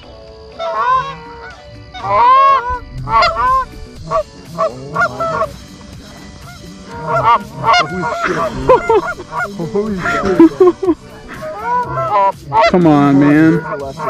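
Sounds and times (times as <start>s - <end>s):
geese honking: 0.4s - 14.0s.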